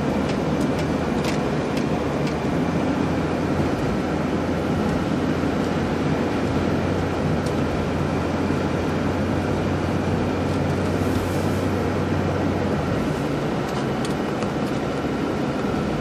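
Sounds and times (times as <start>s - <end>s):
car engine running: 0.0s - 16.0s
tyres on road: 0.0s - 16.0s.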